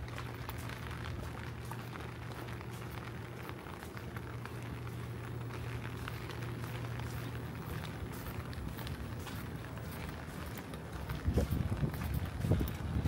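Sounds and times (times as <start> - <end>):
rain drops ticking: 0.0 - 13.0
steady low hum: 0.0 - 13.0.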